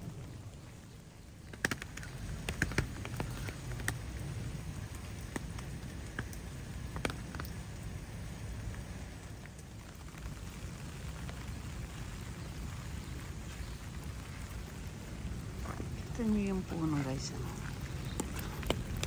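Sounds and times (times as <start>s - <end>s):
light rain falling: 0.0s - 19.0s
raindrops ticking: 0.0s - 19.0s
steady low rumble: 0.0s - 19.0s.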